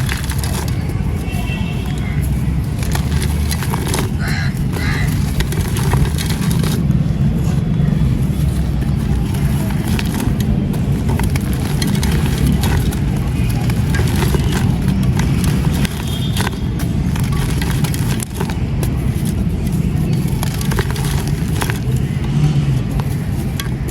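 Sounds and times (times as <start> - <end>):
sand-cement crumbling: 0.0 - 23.9.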